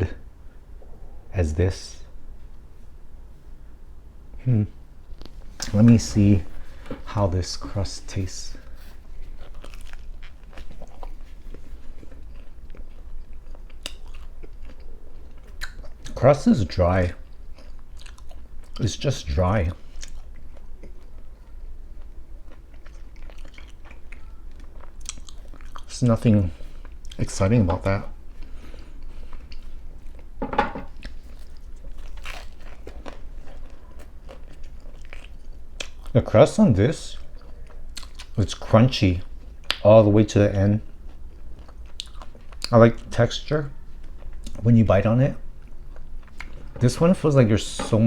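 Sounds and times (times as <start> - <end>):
chewing crunchy crust: 5.0 - 36.4, 37.0 - 39.9, 40.5 - 44.7, 45.4 - 47.9.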